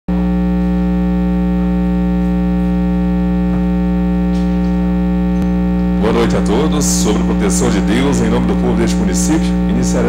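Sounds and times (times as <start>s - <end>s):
electrical mains hum: 0.1s - 10.0s.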